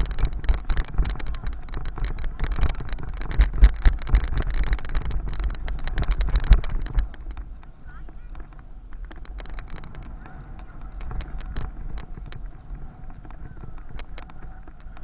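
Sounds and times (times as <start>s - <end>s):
bicycle rattles and knocks: 0.0s - 15.0s
wind buffeting microphone: 0.0s - 15.0s.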